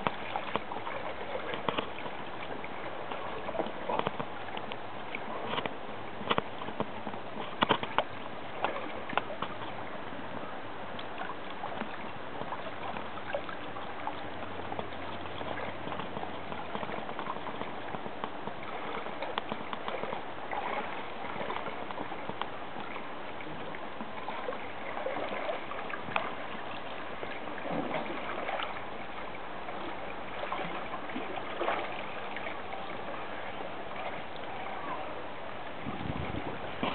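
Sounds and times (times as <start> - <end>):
water lapping and trickling: 0.0 - 36.9
water splashes and sloshes: 0.0 - 36.9.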